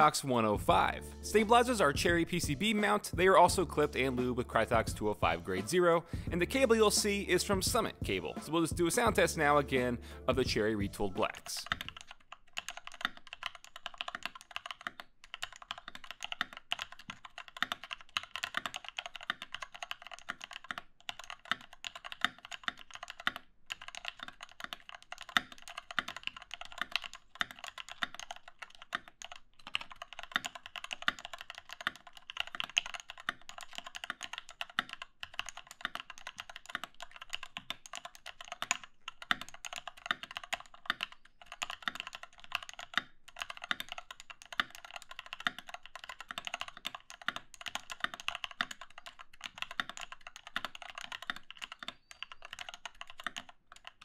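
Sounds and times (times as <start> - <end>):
mechanical keyboard typing: 10.5 - 54.0.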